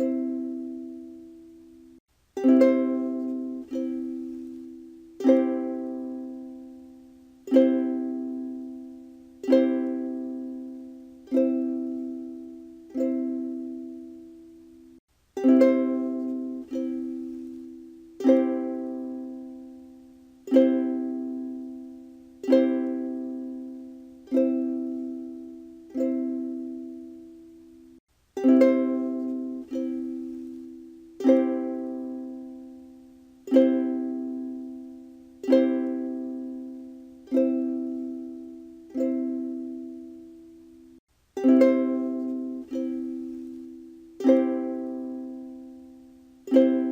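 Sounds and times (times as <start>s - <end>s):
ukulele strumming: 0.0s - 46.9s.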